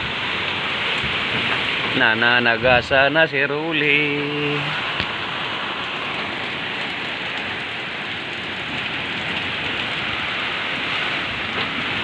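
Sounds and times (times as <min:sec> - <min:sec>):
heavy rain pouring: 0:00.0 - 0:12.0
strong wind: 0:00.0 - 0:12.0.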